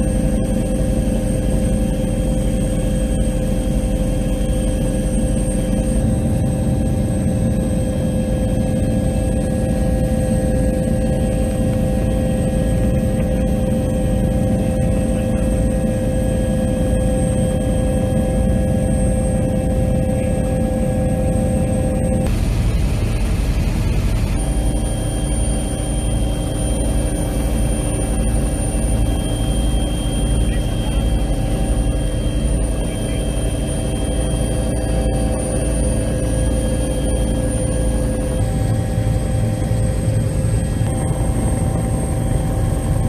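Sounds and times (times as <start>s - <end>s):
helicopter turbine whine: 0.0s - 43.0s
low rotor and engine rumble: 0.0s - 43.0s.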